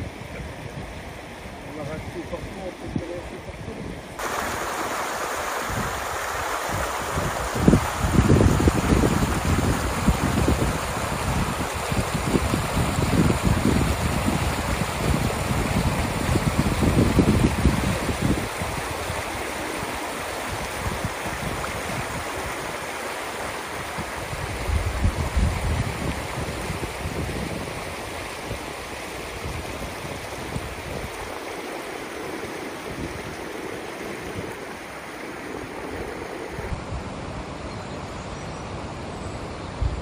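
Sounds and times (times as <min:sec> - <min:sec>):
floodwater rushing: 0:00.0 - 0:36.8
wind buffeting microphone: 0:00.0 - 0:37.0.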